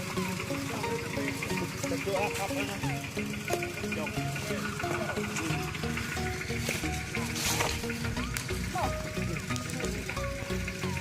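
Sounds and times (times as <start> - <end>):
melody over steady beat: 0.0 - 11.0.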